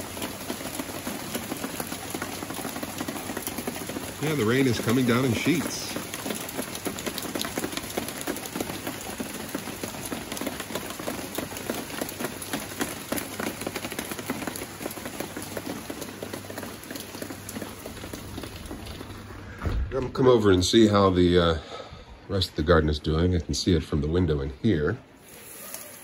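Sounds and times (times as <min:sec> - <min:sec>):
heavy rain patter: 0:00.0 - 0:26.0.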